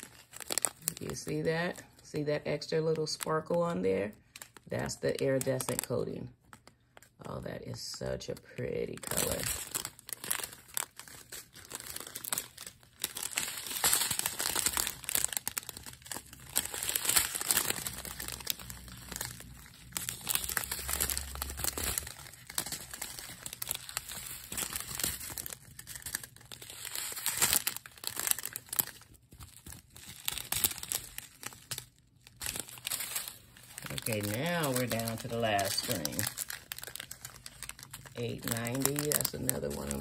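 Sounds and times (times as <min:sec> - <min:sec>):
plastic bags crinkling: 0:00.0 - 0:07.4, 0:08.0 - 0:40.0.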